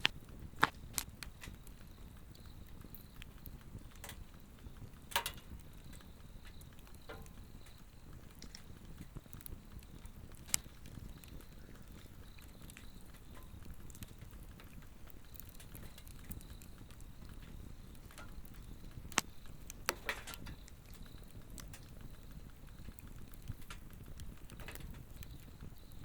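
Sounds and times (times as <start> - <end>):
insects chirping: 0.0 - 26.0
wood crackles: 0.0 - 26.0
wood fire flame rustle: 0.0 - 26.0.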